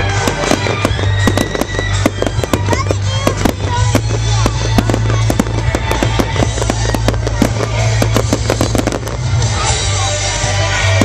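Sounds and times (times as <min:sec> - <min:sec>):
crackling ground fountain: 0:00.0 - 0:11.0
fireworks bangs and crackles: 0:00.0 - 0:11.0.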